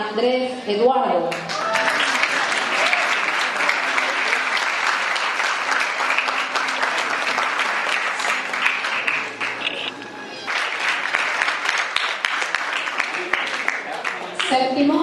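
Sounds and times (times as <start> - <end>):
audience applauding: 1.3 - 14.7.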